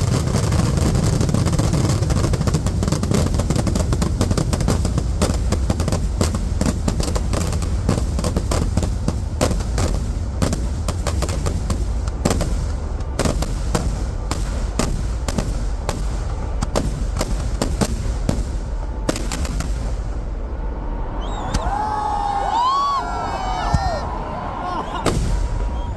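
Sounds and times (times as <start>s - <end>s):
firecracker bangs: 0.0s - 20.4s, 25.0s - 25.9s
low rumble: 1.0s - 25.9s.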